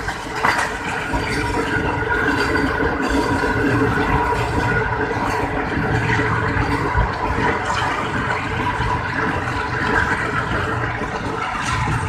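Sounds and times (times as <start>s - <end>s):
train wheels running on rails: 0.0s - 12.0s
wind noise: 0.0s - 12.0s.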